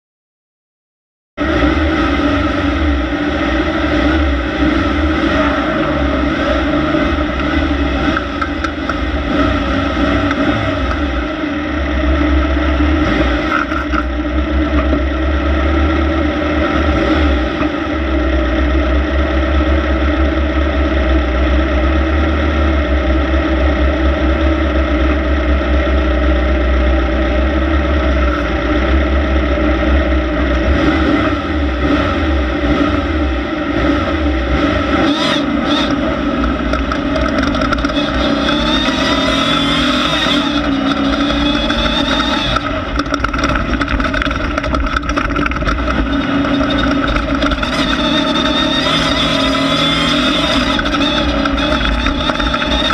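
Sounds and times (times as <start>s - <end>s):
heavy uneven low rumble: 1.4s - 34.5s, 35.5s - 52.9s
race car engine running hard: 1.4s - 52.9s.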